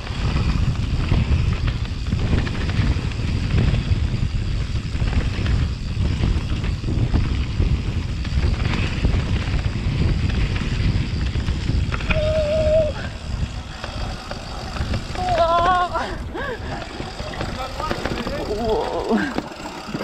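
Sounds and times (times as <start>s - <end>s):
bike rattling over bumps: 0.0s - 20.0s
tyres rolling on dirt: 0.0s - 20.0s
wind on microphone: 0.0s - 20.0s.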